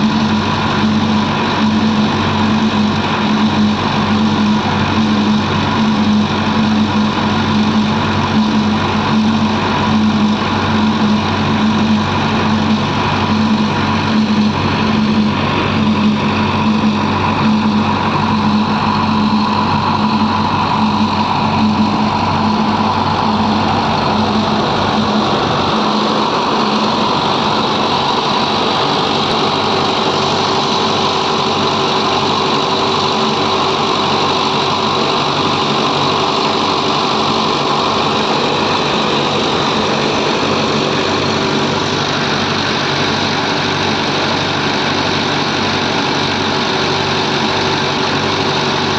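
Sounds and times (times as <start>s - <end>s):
diesel engine of earthmoving machinery: 0.0s - 48.9s.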